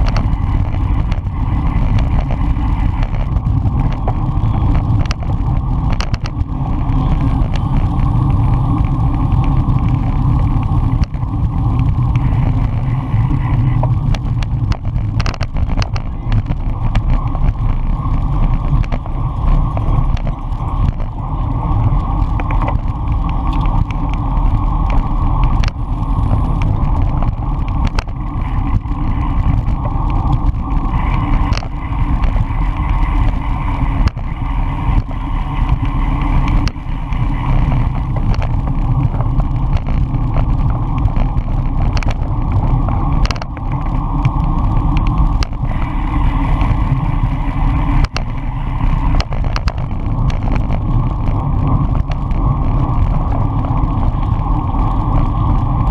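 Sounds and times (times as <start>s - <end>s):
road and tyre noise: 0.0s - 55.9s
wind buffeting microphone: 0.0s - 55.9s.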